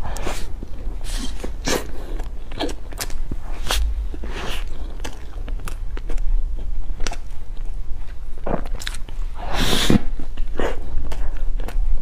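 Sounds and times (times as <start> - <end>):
steady low hum: 0.0 - 12.0
wet chewing and mouth clicks: 0.1 - 12.0.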